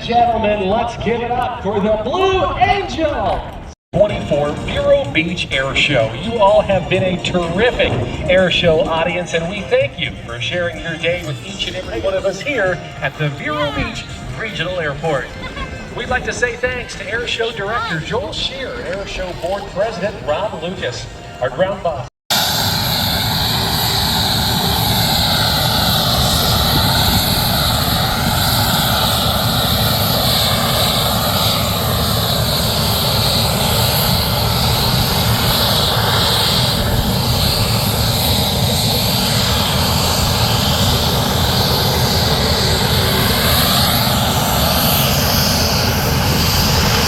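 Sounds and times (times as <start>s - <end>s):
aircraft engines running: 0.0s - 47.0s.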